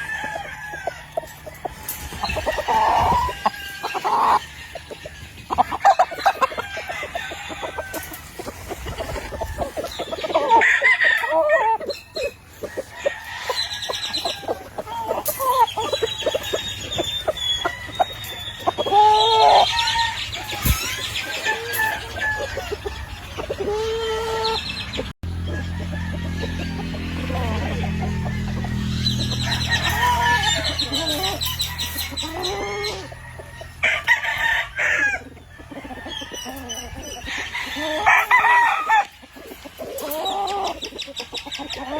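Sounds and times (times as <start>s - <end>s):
chickens clucking: 0.0s - 41.9s
roosters crowing: 0.0s - 41.9s.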